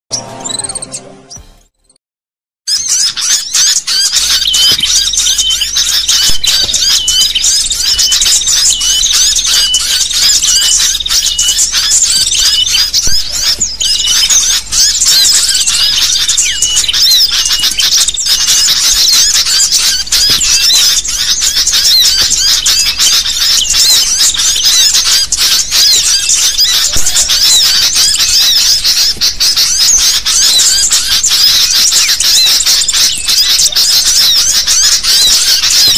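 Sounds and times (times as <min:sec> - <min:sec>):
bulbuls chattering and whistling: 0:00.2 - 0:01.5, 0:02.7 - 0:35.9.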